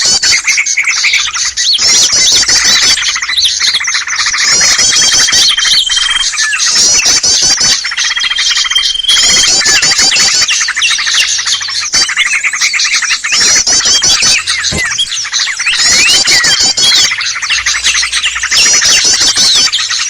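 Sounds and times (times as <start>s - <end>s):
small birds chirping and squawking: 0.0s - 20.0s.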